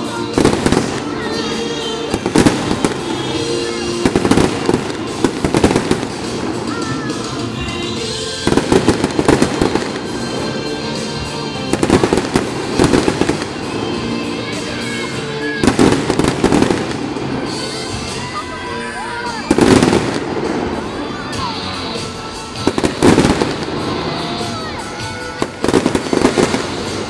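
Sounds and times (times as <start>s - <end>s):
fireworks bangs and crackling: 0.0s - 18.4s, 19.2s - 27.0s
background music: 0.0s - 27.0s.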